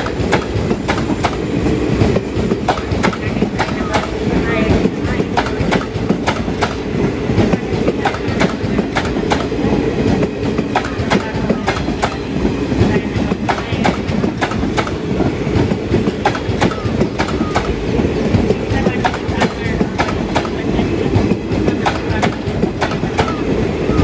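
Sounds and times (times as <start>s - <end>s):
train coaches rumbling past: 0.0s - 24.0s
wheels clacking on rail joints: 0.0s - 24.0s.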